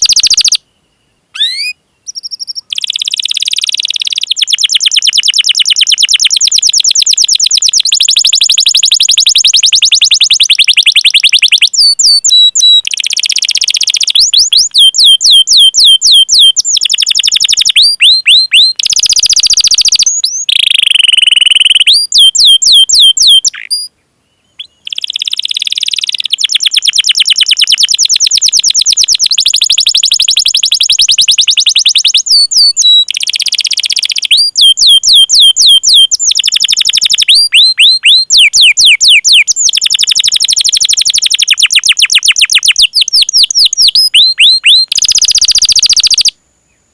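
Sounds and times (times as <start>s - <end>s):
canary singing: 0.0s - 0.7s, 1.3s - 46.3s.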